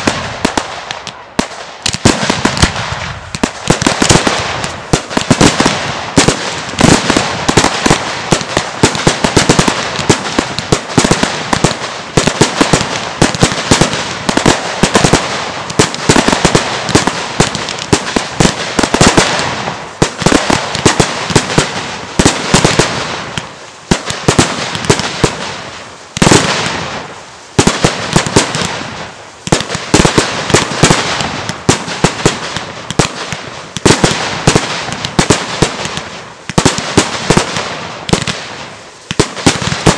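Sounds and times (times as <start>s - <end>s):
fireworks bursting and crackling: 0.0s - 39.9s
loud firework bangs: 0.0s - 39.9s.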